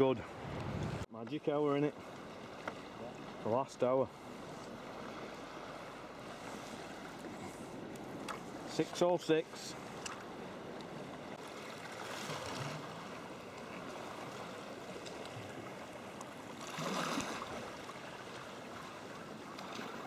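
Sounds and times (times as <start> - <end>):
sea water lapping: 0.0 - 20.0
water surge: 2.0 - 20.0.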